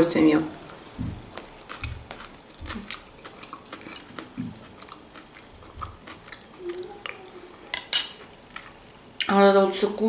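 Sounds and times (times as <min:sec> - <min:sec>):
close-up chewing: 0:00.6 - 0:09.3.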